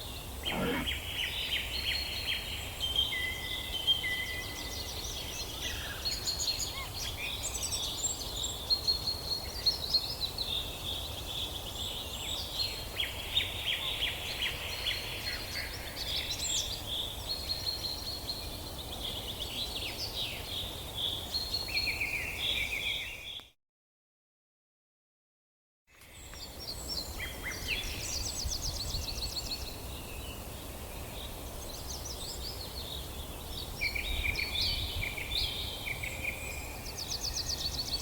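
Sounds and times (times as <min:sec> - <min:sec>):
small birds singing and chirping: 0:00.0 - 0:23.4, 0:26.0 - 0:38.0.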